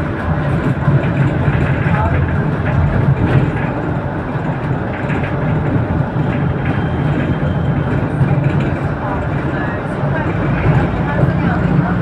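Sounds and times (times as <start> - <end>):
bus engine drone: 0.0 - 12.0
tyre and road noise: 0.0 - 12.0.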